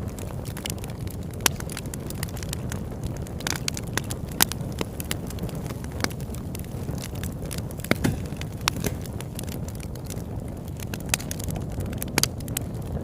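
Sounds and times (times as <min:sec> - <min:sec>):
campfire crackling and popping: 0:00.0 - 0:13.0
low rumble of burning wood: 0:00.0 - 0:13.0.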